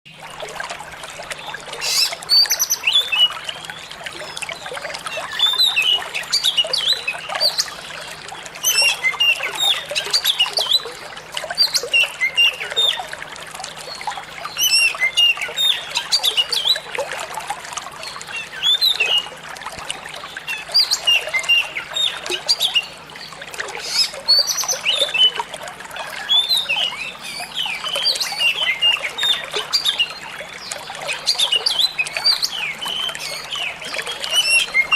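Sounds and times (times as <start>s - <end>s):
running water trickling: 0.1s - 34.9s.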